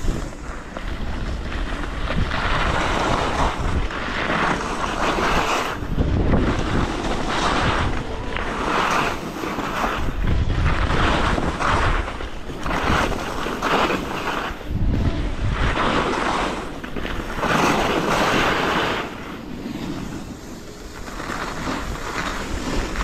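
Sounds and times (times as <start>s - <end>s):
skis scraping on snow: 0.0s - 23.0s
wind rumbling on microphone: 0.0s - 23.0s.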